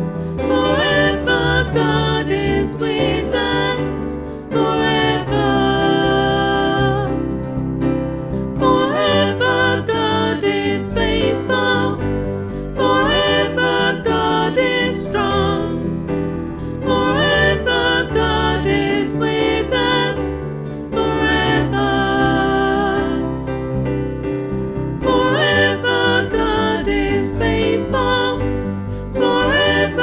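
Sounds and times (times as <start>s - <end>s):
worship song with singing: 0.0s - 7.4s, 8.4s - 23.5s, 24.9s - 30.0s.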